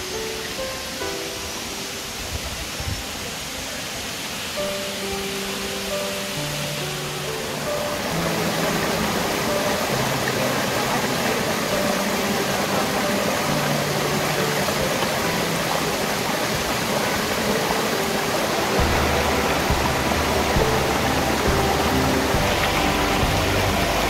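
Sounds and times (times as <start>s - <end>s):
soft music of held notes: 0.0s - 24.0s
water rushing over rock: 0.0s - 24.0s
water splashing into stream pool: 0.1s - 24.0s.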